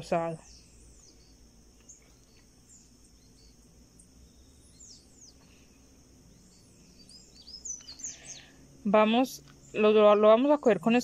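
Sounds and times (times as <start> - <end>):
faint bird chirps: 0.0 - 11.0
faint high-pitched hiss: 0.0 - 11.0.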